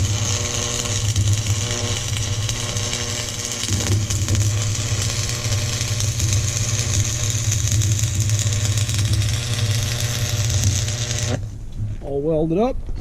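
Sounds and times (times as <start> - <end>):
welding arc crackling hiss: 0.0 - 11.5
low electrical hum: 0.0 - 13.0.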